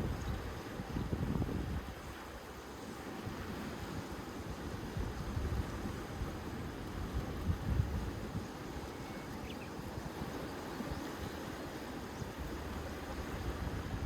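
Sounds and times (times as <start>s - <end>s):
wind buffeting microphone: 0.0s - 2.5s, 3.2s - 14.0s
sea surf: 0.0s - 14.0s.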